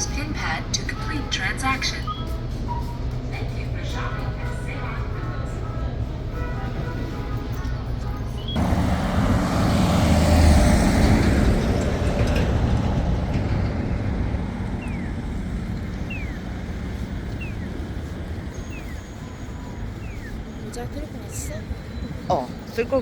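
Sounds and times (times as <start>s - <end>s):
road noise: 0.0s - 23.0s
vehicle passing: 3.4s - 23.0s.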